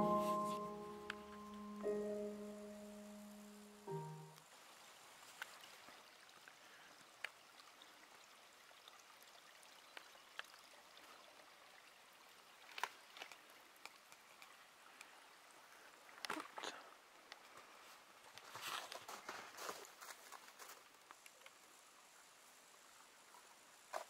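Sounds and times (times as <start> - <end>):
small stream trickling: 3.3 - 24.0.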